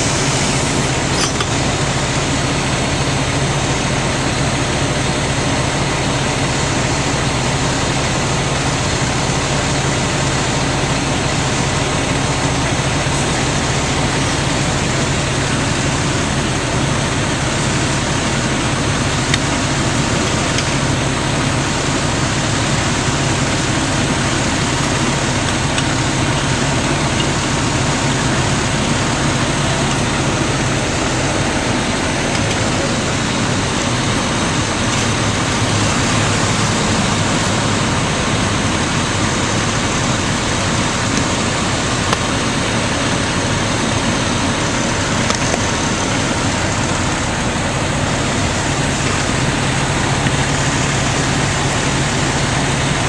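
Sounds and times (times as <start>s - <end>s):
fire engine engine running: 0.0s - 53.0s.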